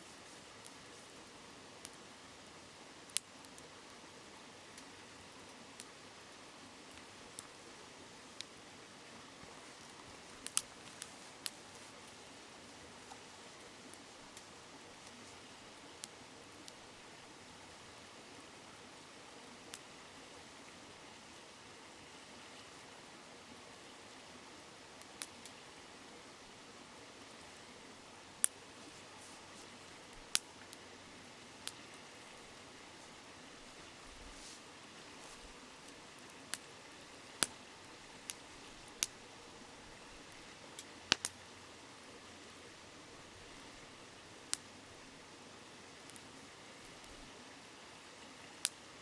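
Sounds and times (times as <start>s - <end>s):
campfire crackle: 0.0s - 49.0s
river murmuring over stones: 0.0s - 49.0s.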